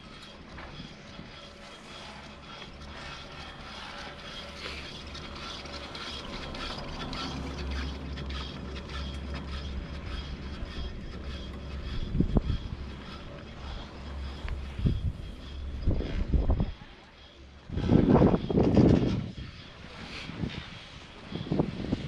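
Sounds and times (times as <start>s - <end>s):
chairlift rope rumbling: 0.0s - 22.0s
faint steady tones: 0.0s - 22.0s.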